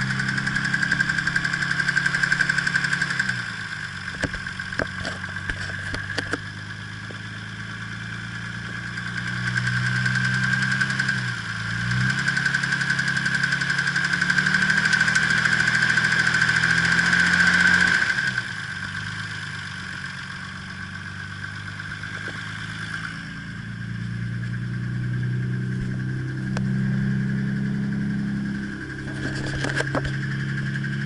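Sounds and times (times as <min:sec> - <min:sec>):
car engine running with knock: 0:00.0 - 0:31.0.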